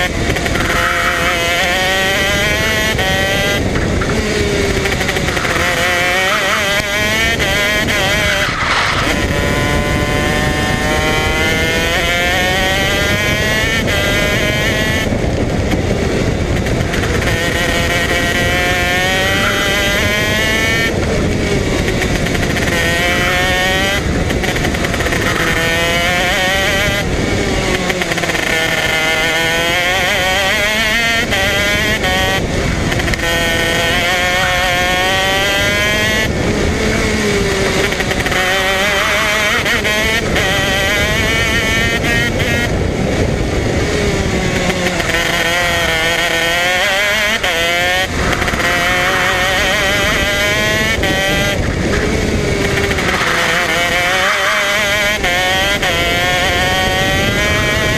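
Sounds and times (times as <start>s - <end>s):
kart engine revving: 0.0s - 57.9s.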